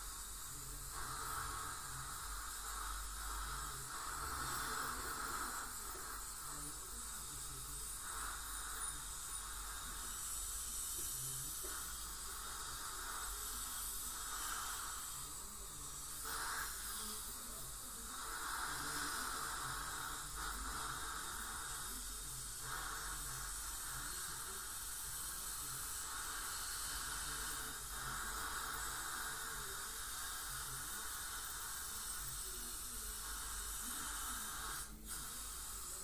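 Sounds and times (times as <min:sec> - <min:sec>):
dental suction hiss: 0:00.0 - 0:36.0.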